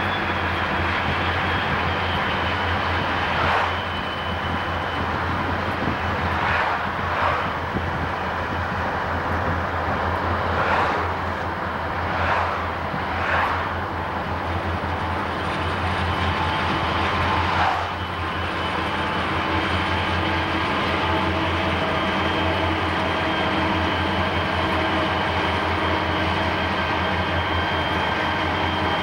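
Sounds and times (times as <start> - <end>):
road and wind noise in car: 0.0 - 29.0.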